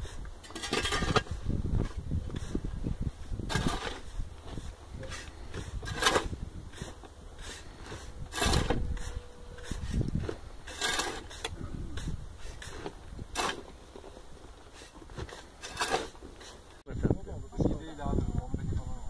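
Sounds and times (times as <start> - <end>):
shovel scraping soil and stones: 0.0 - 16.8.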